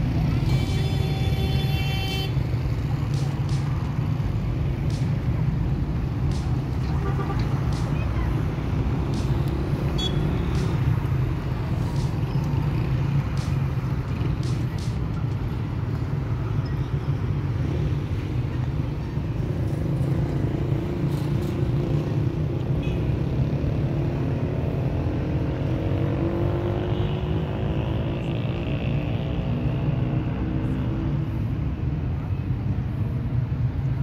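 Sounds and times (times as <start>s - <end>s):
cars and motorbikes passing: 0.0s - 34.0s
low rumble of engines and tyres: 0.0s - 34.0s.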